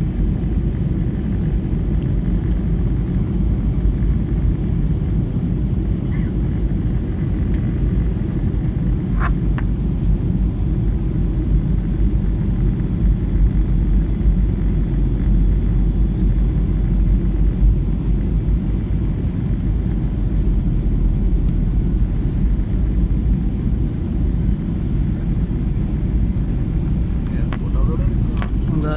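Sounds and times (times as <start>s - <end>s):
airplane engines rumbling: 0.0s - 28.9s.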